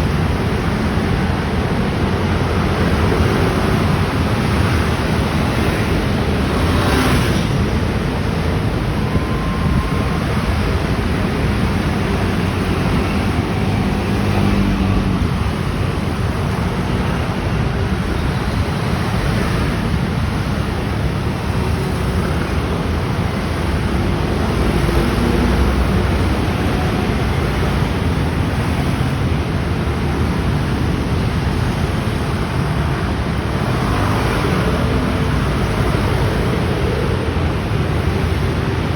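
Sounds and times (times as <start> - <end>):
motor scooters passing: 0.1 - 38.9.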